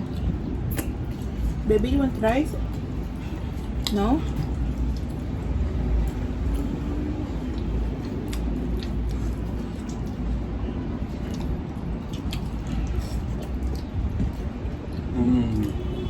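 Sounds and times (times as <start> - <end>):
chewing and mouth clicks: 0.0 - 1.6, 2.6 - 16.0.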